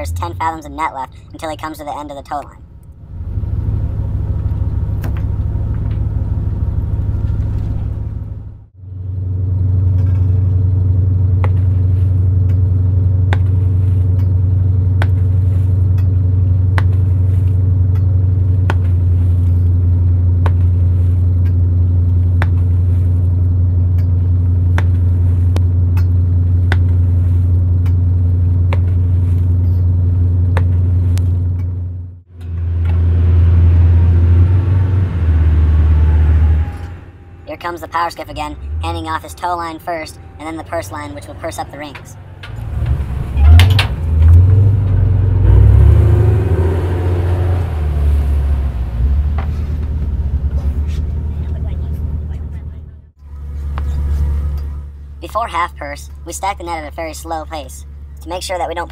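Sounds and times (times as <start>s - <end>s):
boat engine low drone: 0.0s - 58.9s.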